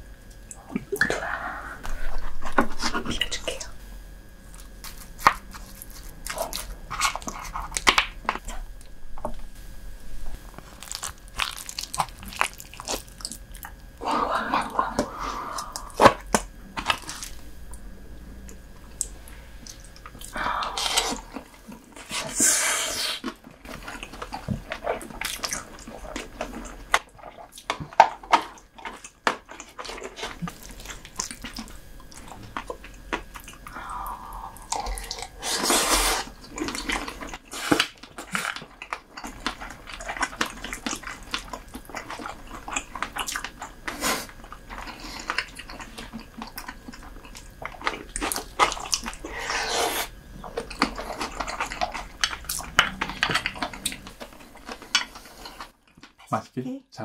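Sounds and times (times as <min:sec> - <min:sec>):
wet chewing and smacking: 0:04.4 - 0:09.0, 0:10.5 - 0:22.2, 0:23.2 - 0:56.4.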